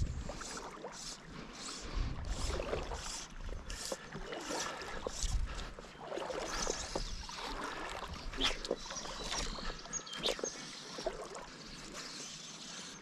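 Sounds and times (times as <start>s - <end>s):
water sloshing and lapping: 0.0s - 13.0s.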